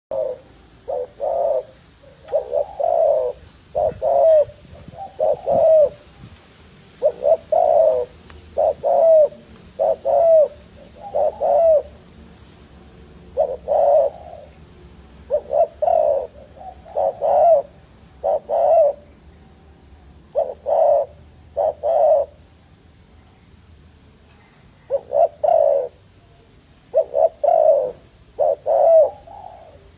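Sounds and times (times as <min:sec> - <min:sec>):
dove cooing: 0:00.1 - 0:22.8, 0:24.4 - 0:29.9.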